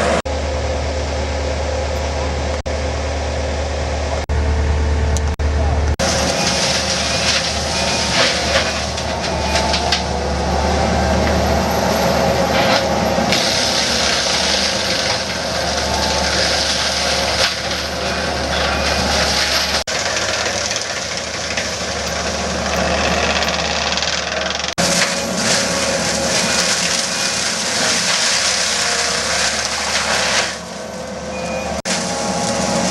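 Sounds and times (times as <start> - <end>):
diesel engine drone: 0.0 - 32.9
mulcher shredding brush: 4.9 - 32.9.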